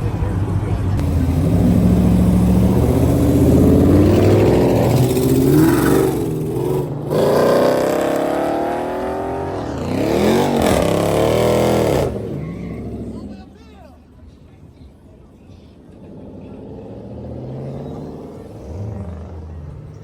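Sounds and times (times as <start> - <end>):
car engine revving: 0.0 - 13.5, 15.8 - 20.0.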